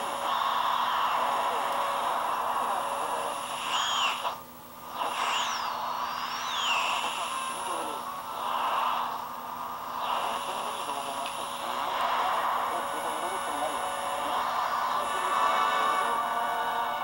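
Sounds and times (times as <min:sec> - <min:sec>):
muffled radio station: 0:00.0 - 0:17.0
radio static hiss: 0:00.0 - 0:17.0
radio tuning whistles: 0:00.0 - 0:17.0.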